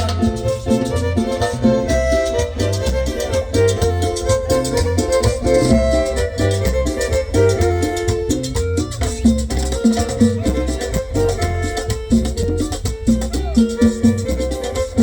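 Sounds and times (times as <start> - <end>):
pulsing double bass line: 0.0 - 15.0
violin melody: 0.0 - 15.0.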